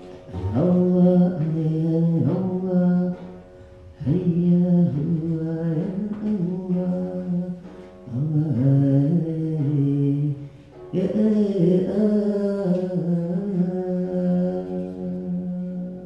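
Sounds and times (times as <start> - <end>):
person singing a devotional chant: 0.0 - 16.0.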